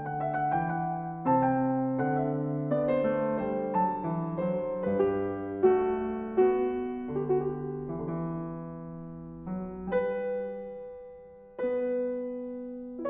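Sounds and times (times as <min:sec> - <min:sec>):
slow gentle solo piano: 0:00.0 - 0:13.0.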